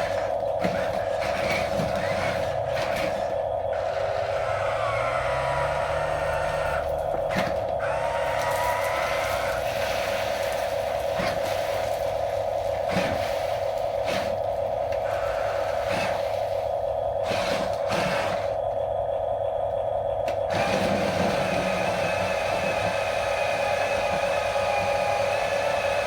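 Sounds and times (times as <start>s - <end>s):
small electric motor whining: 0.0s - 11.8s, 12.7s - 18.7s, 20.3s - 26.0s.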